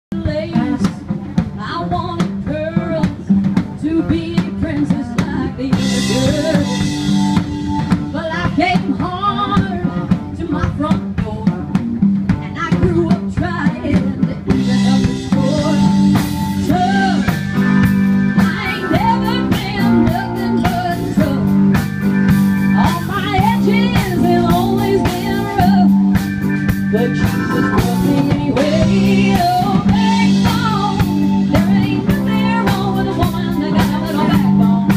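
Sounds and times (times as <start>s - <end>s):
woman singing into a microphone: 0.1s - 7.4s, 8.0s - 17.7s, 18.4s - 21.8s, 22.7s - 26.3s, 27.2s - 34.9s
drum kit: 0.1s - 34.9s
electric guitars: 0.1s - 34.9s
keyboard: 0.1s - 34.9s.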